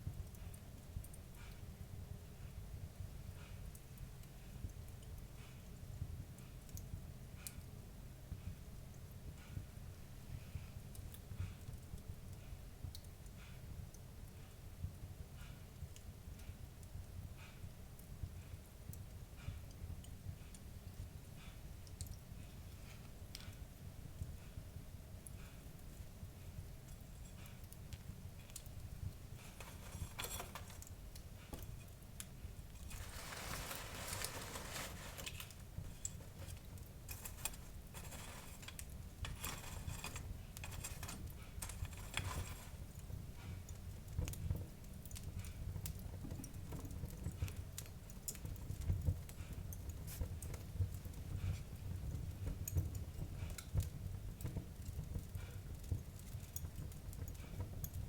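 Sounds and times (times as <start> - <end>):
wood fire crackling and popping: 8.7 - 58.0.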